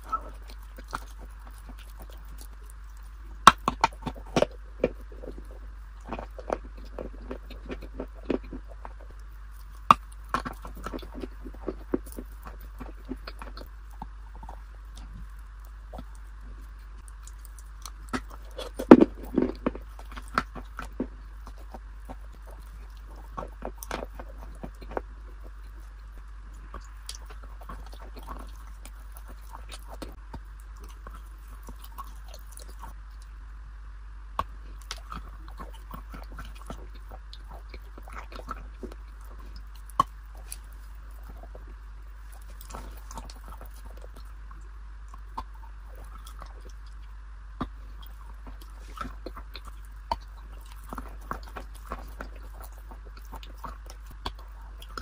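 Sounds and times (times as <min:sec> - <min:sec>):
biting and chewing food: 0:00.0 - 0:33.4, 0:34.3 - 0:55.0
low hum and hiss: 0:00.0 - 0:55.0.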